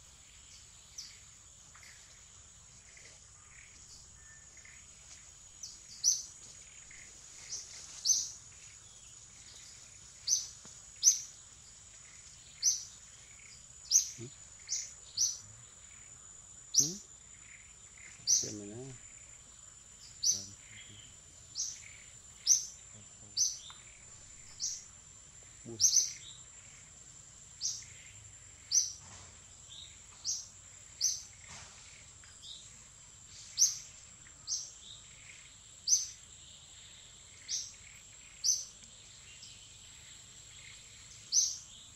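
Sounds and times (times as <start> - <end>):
bird chirping: 0.0 - 41.9
high insect whine: 0.0 - 41.9.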